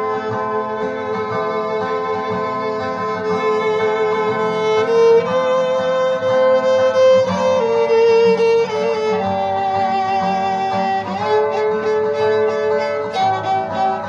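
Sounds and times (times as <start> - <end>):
solo violin playing: 0.0 - 14.0.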